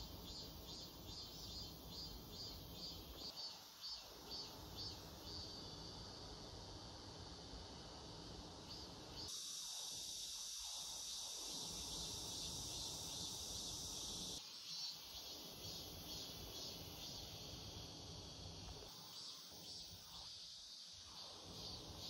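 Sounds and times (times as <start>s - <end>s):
high-pitched insect chirring: 0.0s - 5.9s, 8.7s - 22.0s.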